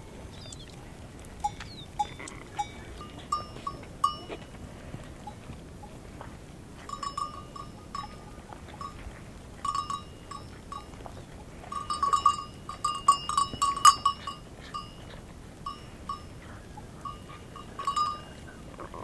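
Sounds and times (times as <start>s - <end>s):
livestock bells clanking: 1.4s - 19.0s.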